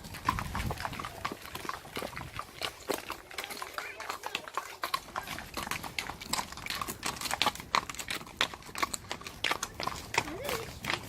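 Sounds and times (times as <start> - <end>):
horse hooves on a lane: 0.0 - 11.0.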